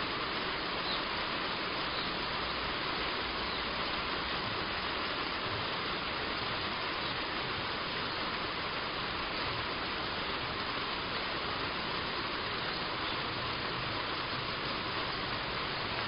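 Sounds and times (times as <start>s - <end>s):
heavy rain on a roof: 0.0s - 16.0s.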